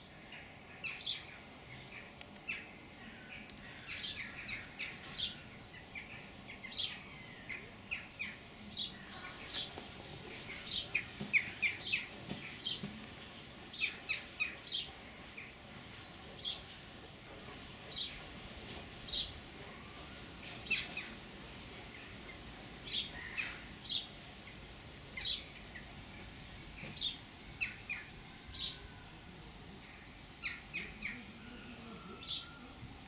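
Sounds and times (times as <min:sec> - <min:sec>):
small birds chirping: 0:00.0 - 0:13.1, 0:13.7 - 0:29.1, 0:29.7 - 0:33.0.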